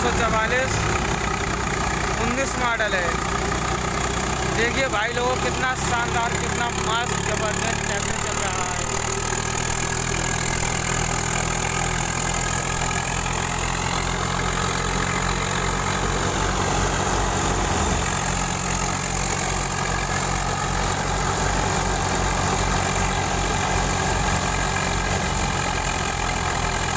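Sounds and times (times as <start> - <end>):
tractor diesel engine idling: 0.0 - 26.9.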